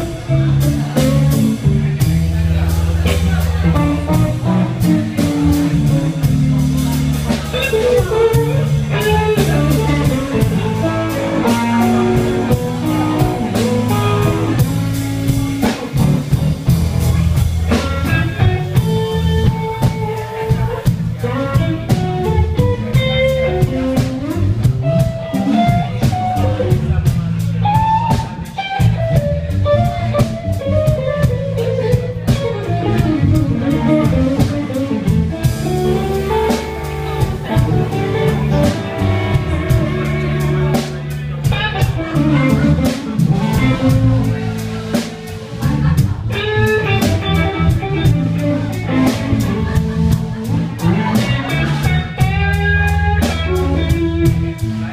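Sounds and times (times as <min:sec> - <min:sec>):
bass guitar: 0:00.0 - 0:54.9
drum kit steady beat: 0:00.0 - 0:54.9
electric guitar sliding melody: 0:03.0 - 0:26.8, 0:27.6 - 0:54.9.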